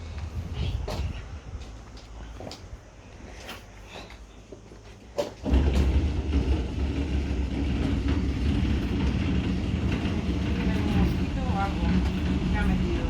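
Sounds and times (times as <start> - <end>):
steady low rumble: 0.0 - 3.2, 5.4 - 13.0.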